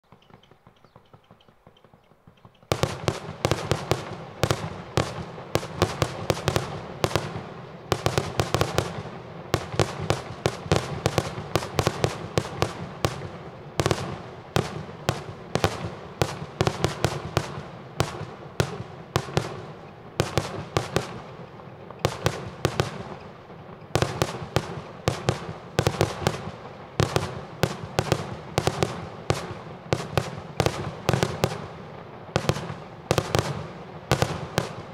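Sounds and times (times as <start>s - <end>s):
fireworks bangs: 0.5s - 34.9s.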